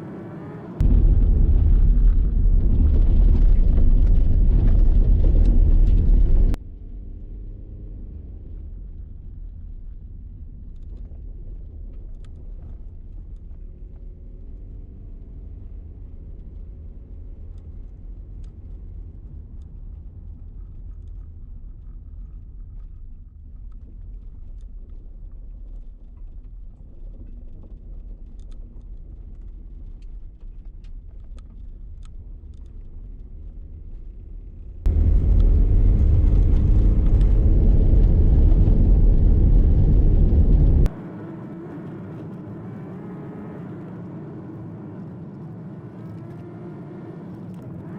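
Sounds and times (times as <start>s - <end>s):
faint engine hum: 0.0s - 47.9s
low road rumble: 0.0s - 47.9s.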